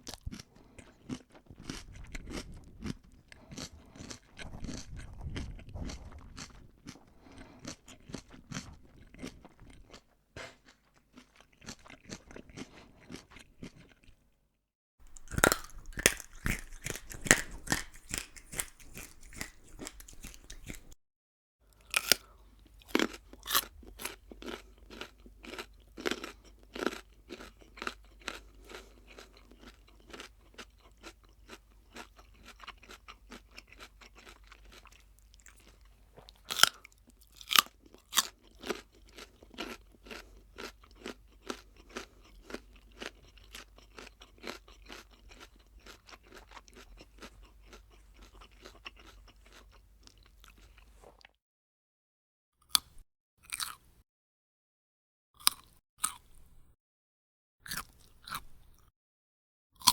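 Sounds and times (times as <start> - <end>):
crunchy chewing: 0.0 - 14.2, 15.0 - 21.0, 21.7 - 51.4, 52.7 - 53.8, 55.4 - 56.4, 57.6 - 58.9.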